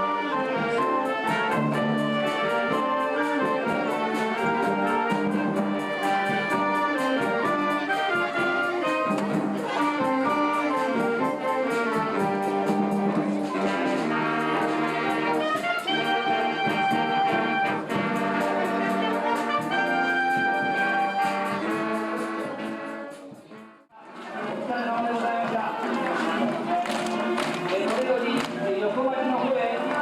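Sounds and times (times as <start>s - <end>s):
brass band music: 0.0s - 30.0s.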